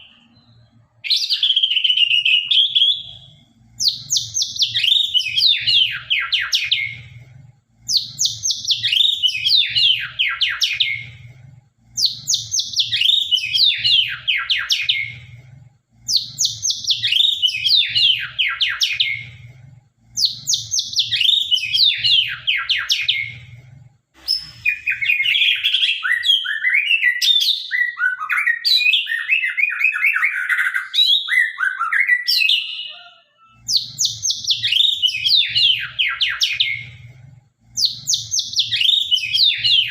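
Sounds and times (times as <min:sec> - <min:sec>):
bird singing trilled phrases: 0:00.0 - 0:07.2, 0:07.9 - 0:11.3, 0:12.0 - 0:15.3, 0:16.0 - 0:19.5, 0:20.2 - 0:23.6, 0:24.3 - 0:37.1, 0:37.8 - 0:39.9.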